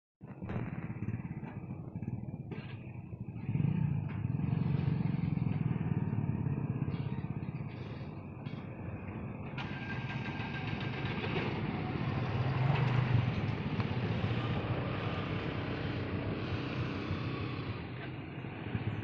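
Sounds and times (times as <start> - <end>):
motorcycle and truck engines idling: 0.3 - 19.0.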